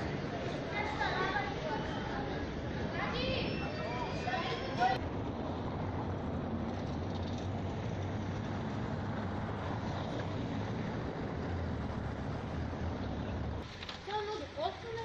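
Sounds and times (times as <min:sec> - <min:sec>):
low city background rumble: 0:00.0 - 0:15.0.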